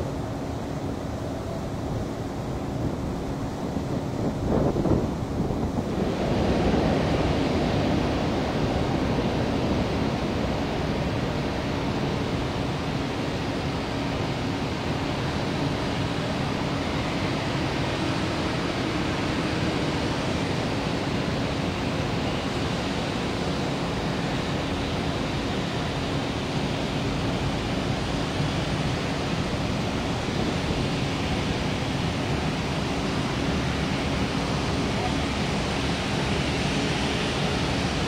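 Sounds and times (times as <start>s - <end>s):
constant low hum: 0.0s - 38.0s
jet engines rushing: 0.0s - 38.0s.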